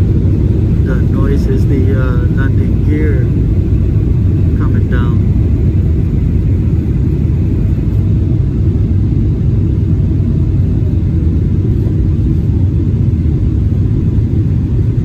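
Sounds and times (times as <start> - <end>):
airliner cabin rumble: 0.0 - 15.0
faint steady hum: 0.0 - 15.0.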